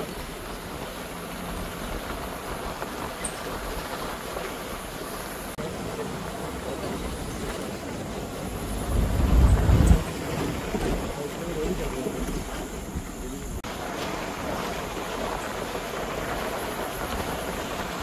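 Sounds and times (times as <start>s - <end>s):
road noise: 0.0s - 18.0s
vehicle rumbling on rough track: 0.0s - 18.0s.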